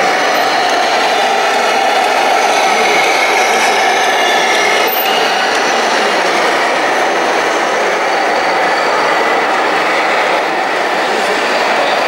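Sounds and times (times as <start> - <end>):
model vehicles running: 0.0 - 12.0.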